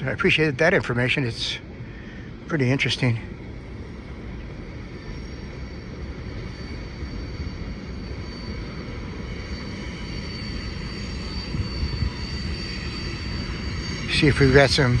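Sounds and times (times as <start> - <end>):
faint high-pitched whine: 0.0 - 15.0
train wheels rumbling on rail: 0.0 - 15.0.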